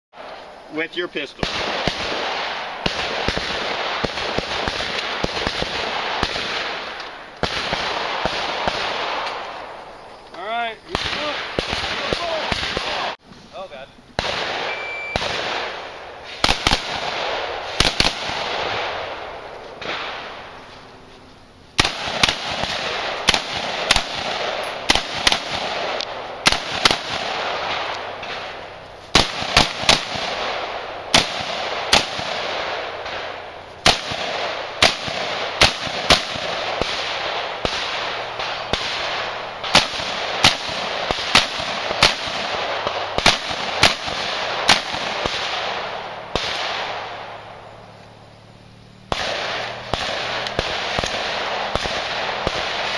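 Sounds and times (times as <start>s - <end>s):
pistol gunshots: 1.0s - 9.8s, 10.9s - 13.2s, 14.2s - 20.6s, 21.8s - 47.6s, 49.0s - 52.9s.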